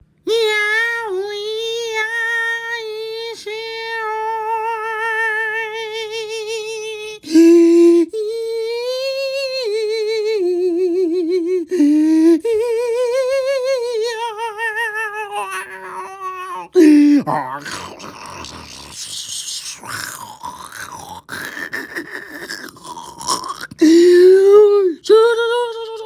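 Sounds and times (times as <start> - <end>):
high voice humming long notes: 0.3 - 26.0.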